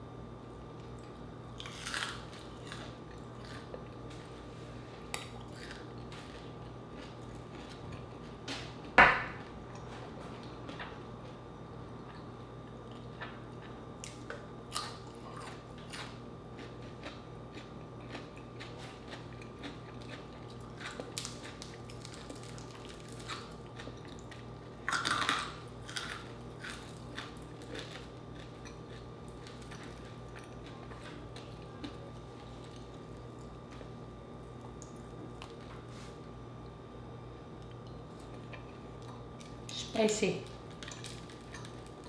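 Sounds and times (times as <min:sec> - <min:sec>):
faint steady hum: 0:00.0 - 0:42.0
chewing and crunching food: 0:00.7 - 0:42.0.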